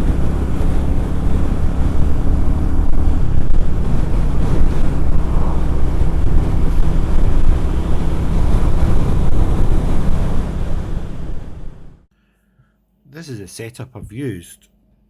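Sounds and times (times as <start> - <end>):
motorcycle engine humming: 0.0 - 12.1
road rush: 0.0 - 12.1
wind buffeting: 0.0 - 12.1.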